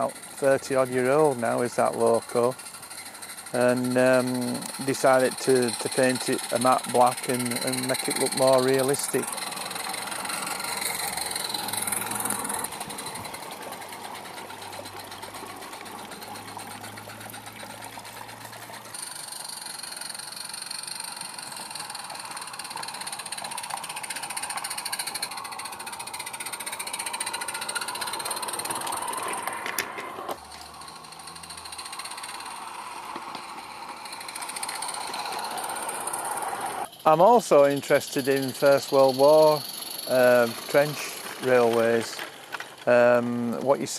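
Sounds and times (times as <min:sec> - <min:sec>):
steam locomotive exhaust beat: 0:00.0 - 0:29.8, 0:30.4 - 0:43.9
wheels rattling on rails: 0:00.0 - 0:43.9.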